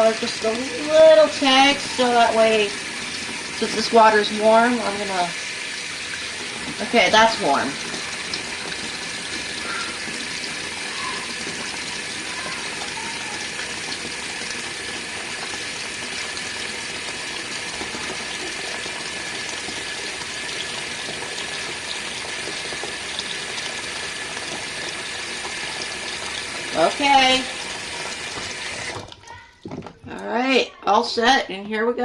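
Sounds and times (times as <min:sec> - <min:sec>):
tap water running into tub: 0:00.0 - 0:30.2.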